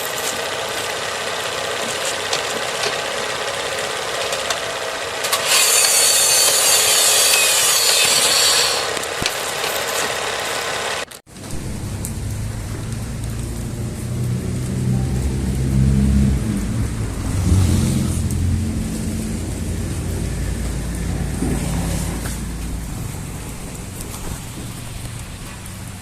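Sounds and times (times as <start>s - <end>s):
heavy rain: 0.0s - 26.0s
loud hiss: 0.0s - 26.0s
traffic hum on wet street: 0.0s - 26.0s.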